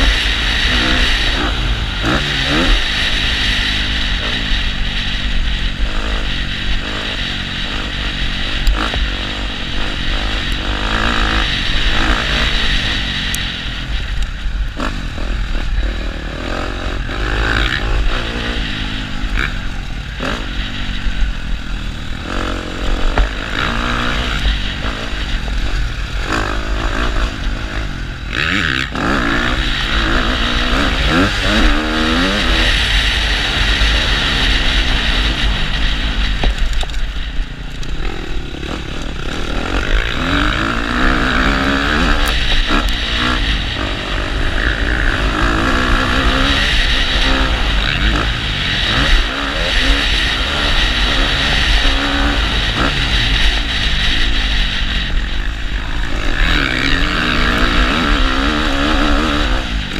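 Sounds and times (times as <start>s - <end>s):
dirt bike engine revving: 0.0s - 59.9s
steady rushing noise: 0.0s - 59.9s.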